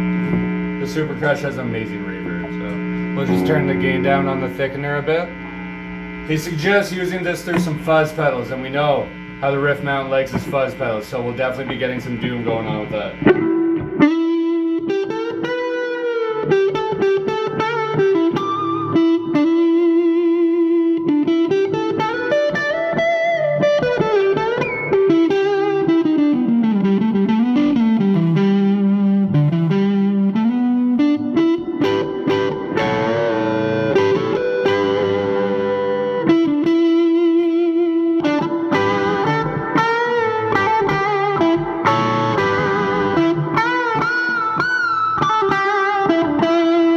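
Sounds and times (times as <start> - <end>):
overdriven electric guitar lead: 0.0 - 46.9.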